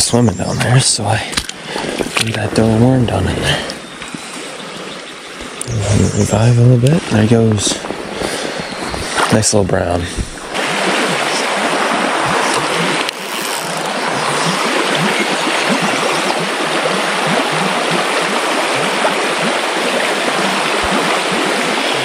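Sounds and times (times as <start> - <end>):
stream rushing over riffle: 1.4 - 22.0.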